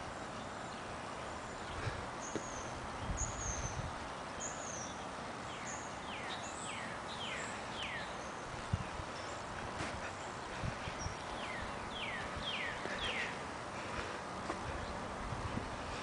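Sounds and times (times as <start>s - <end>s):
birds chirping: 0.0s - 16.0s
steady outdoor hiss: 0.0s - 16.0s.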